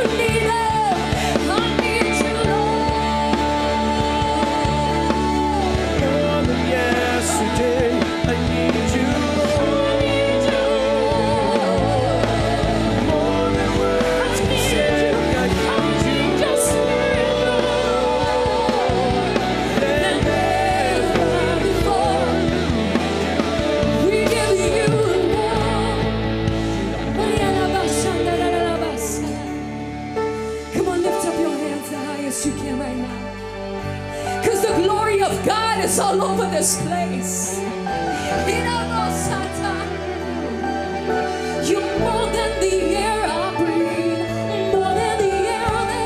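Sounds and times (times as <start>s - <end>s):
live worship band playing: 0.0s - 46.0s.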